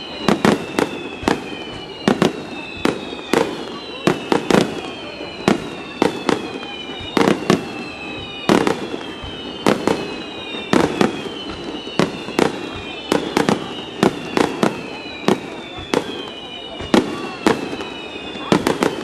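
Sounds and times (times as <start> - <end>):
high thin descending whistles: 0.0 - 19.0.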